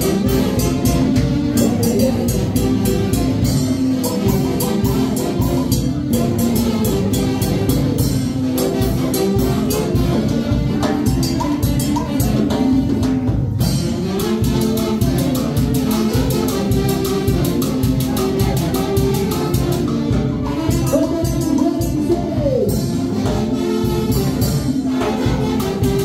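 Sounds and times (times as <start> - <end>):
drum kit cymbal beat: 0.0 - 26.0
latin dance orchestra: 0.0 - 26.0.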